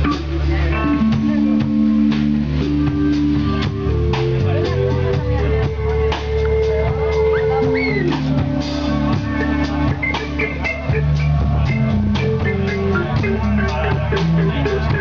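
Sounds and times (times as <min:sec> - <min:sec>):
drum kit steady beat: 0:00.0 - 0:15.0
electric guitars: 0:00.0 - 0:15.0
keyboard: 0:00.0 - 0:15.0.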